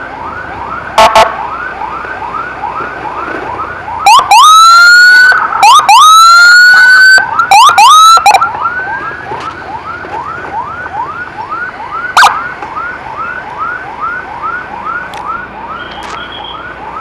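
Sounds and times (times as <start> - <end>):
loud close siren: 0.0 - 17.0
siren yelping: 0.2 - 17.0.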